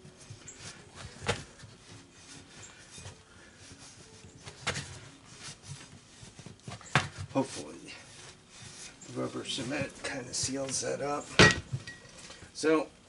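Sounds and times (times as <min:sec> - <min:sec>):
cloth rag rubbing on metal rim: 0:00.0 - 0:11.4.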